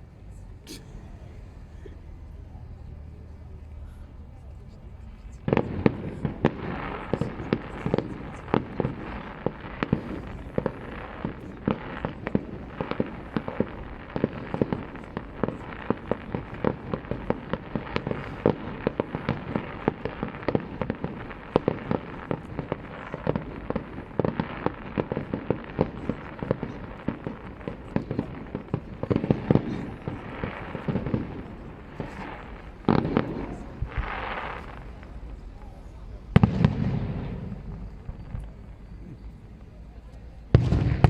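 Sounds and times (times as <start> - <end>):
fireworks bursting: 0.0 - 3.8, 4.9 - 41.0.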